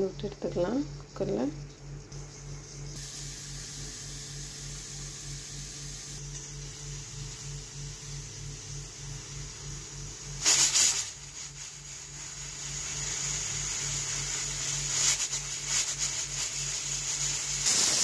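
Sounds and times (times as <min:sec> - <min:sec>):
pressure cooker steam hissing: 0:02.9 - 0:18.0.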